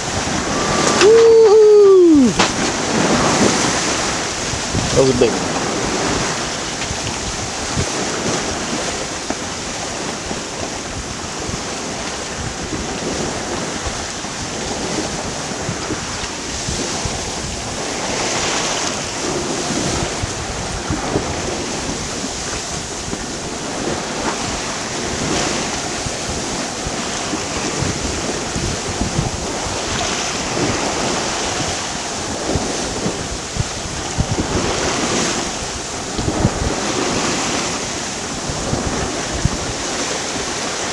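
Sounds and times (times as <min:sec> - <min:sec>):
waves rushing along hull: 0:00.0 - 0:40.9
wind buffeting microphone: 0:00.0 - 0:40.9.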